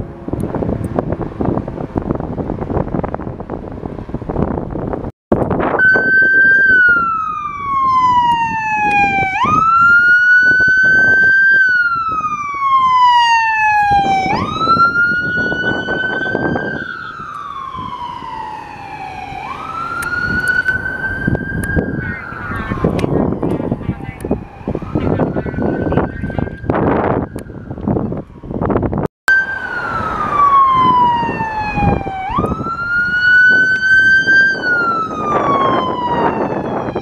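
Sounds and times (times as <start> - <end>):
vehicle noise: 0.0 - 37.0
electronic siren wailing: 5.5 - 37.0.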